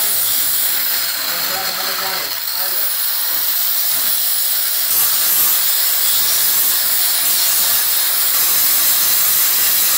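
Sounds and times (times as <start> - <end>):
angle grinders grinding steel: 0.0 - 9.9.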